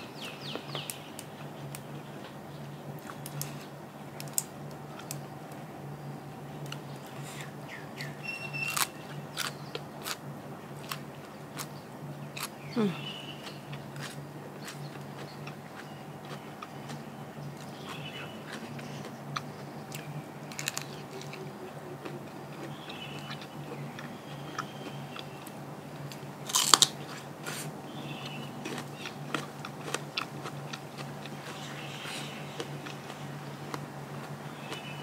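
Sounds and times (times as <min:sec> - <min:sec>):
person chewing crunchy food: 0:03.0 - 0:05.6, 0:06.5 - 0:35.0.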